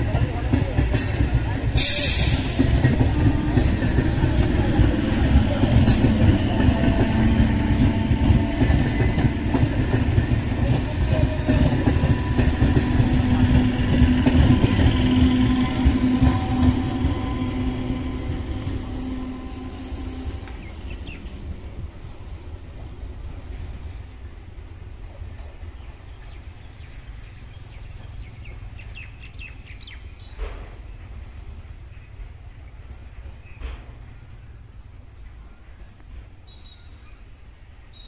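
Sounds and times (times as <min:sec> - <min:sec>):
train wheels rumbling on rails: 0:00.0 - 0:36.8
train low hum: 0:00.0 - 0:38.0.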